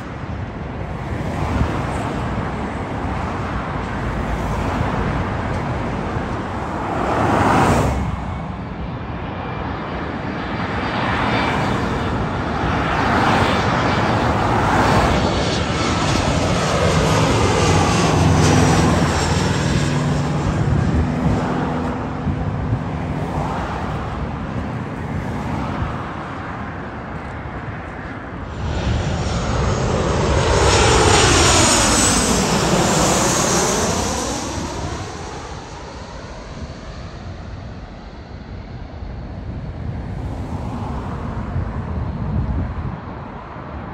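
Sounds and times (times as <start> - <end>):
jet airliner engine roar: 0.0 - 43.9
sweeping jet engine whine: 0.0 - 43.9.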